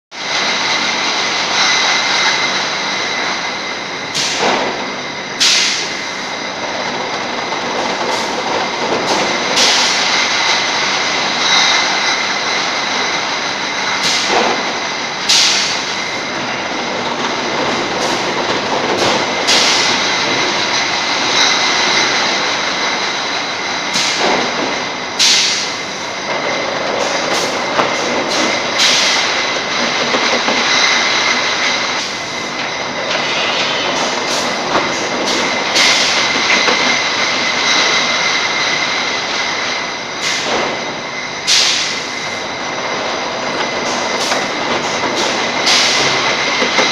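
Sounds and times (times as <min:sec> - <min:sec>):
machine drone with high whine: 0:00.1 - 0:46.9.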